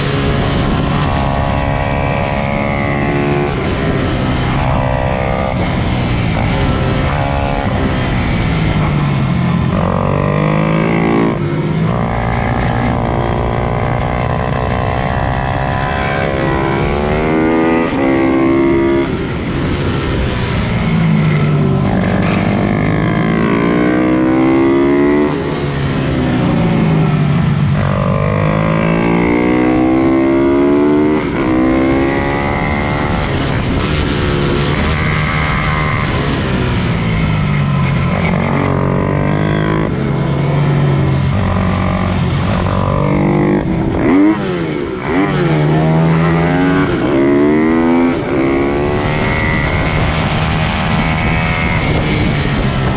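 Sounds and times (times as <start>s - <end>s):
pit bike engines racing: 0.0s - 52.9s.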